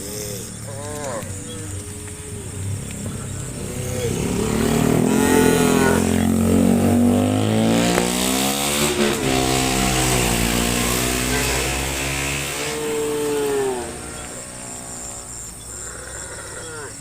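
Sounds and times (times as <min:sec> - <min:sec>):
cows mooing: 0:00.0 - 0:17.0.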